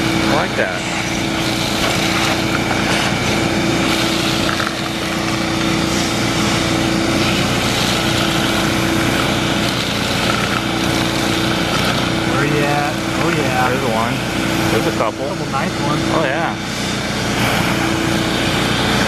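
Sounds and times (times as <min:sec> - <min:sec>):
small gasoline engine running: 0:00.0 - 0:19.0
vacuum hose rushing noise: 0:00.0 - 0:19.0.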